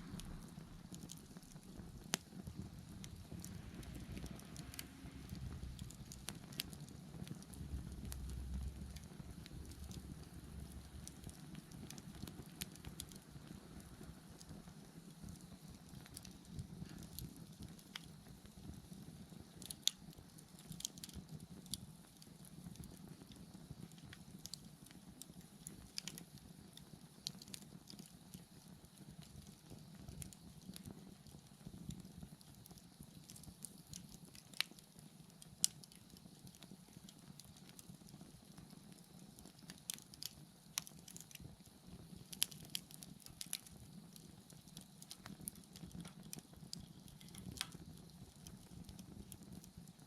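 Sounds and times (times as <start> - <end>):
bonfire crackling and popping: 0.0 - 50.0
fire low steady rush: 0.0 - 50.0.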